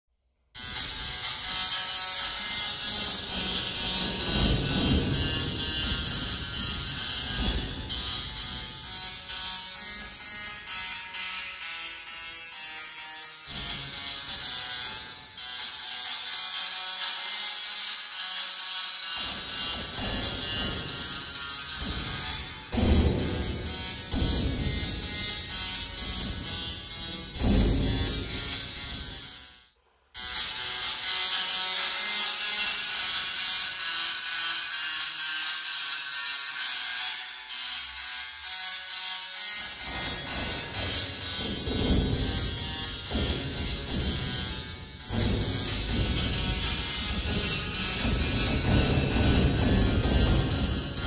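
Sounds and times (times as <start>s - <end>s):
tesla coil spark buzzing and crackling: 0.6s - 11.6s, 12.2s - 29.6s, 30.2s - 51.0s.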